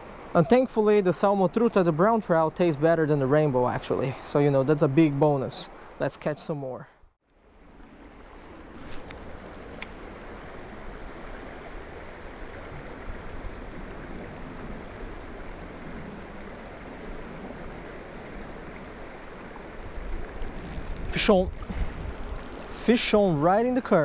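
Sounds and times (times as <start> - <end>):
creek water running over rocks: 0.1 - 6.6, 7.8 - 24.0.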